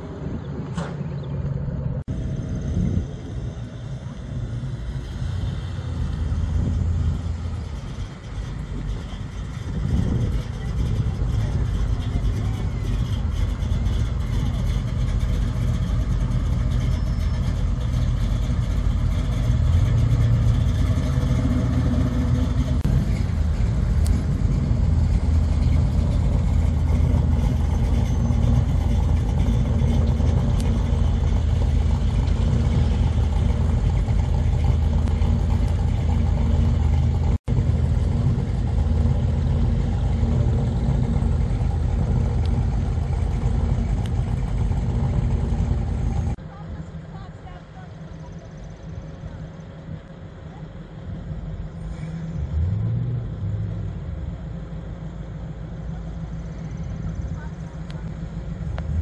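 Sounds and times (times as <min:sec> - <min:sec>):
car engine and exhaust rumble: 0:00.0 - 0:59.0.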